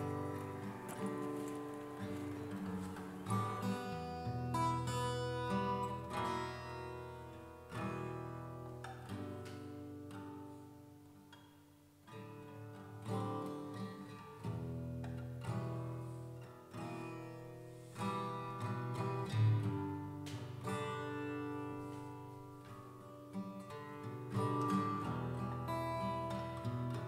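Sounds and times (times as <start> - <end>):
acoustic guitar plucked notes: 0.0 - 27.0.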